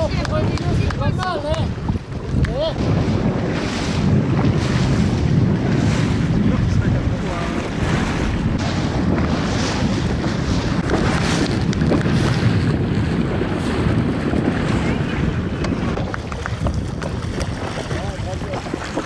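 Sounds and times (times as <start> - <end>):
water lapping and splashing: 0.0 - 19.0
wind buffeting microphone: 0.0 - 19.0.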